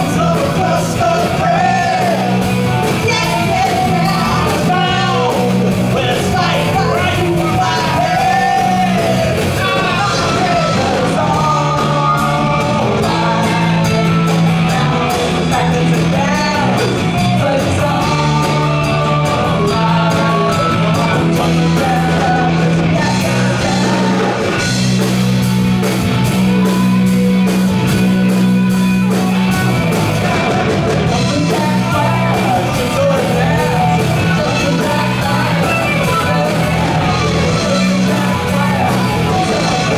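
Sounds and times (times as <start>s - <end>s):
person singing: 0.0s - 24.7s, 29.1s - 39.9s
bass guitar: 0.0s - 39.9s
drum kit: 0.0s - 39.9s
electric guitars: 0.0s - 39.9s.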